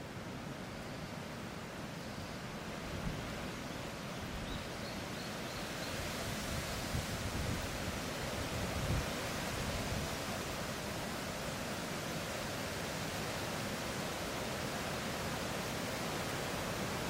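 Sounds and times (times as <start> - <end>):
low wind gusts: 0.0 - 17.0
wind rustling tree leaves: 0.0 - 17.0.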